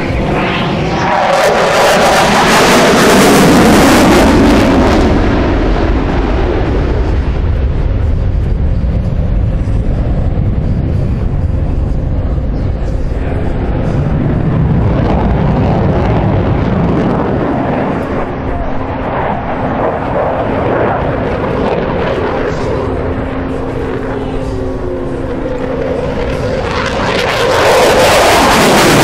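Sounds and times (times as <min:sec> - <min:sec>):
jet engines passing: 0:00.0 - 0:29.0.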